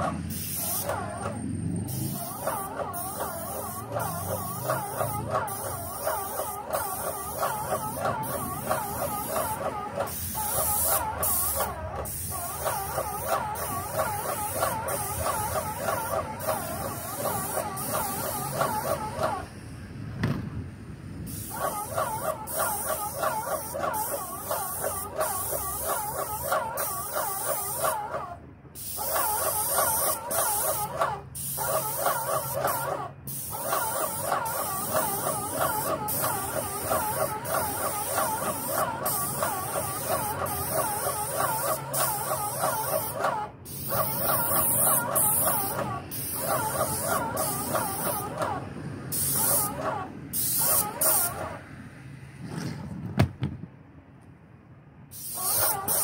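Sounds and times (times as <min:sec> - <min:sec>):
paint sprayer hissing with whine: 0:00.0 - 0:19.6, 0:21.3 - 0:28.2, 0:28.8 - 0:51.4.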